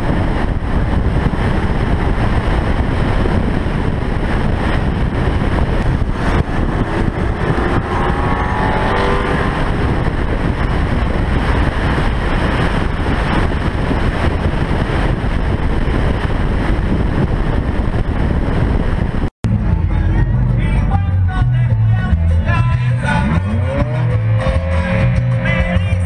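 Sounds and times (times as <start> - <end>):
car engine accelerating: 0.0 - 26.0
wind and road roar: 0.0 - 26.0.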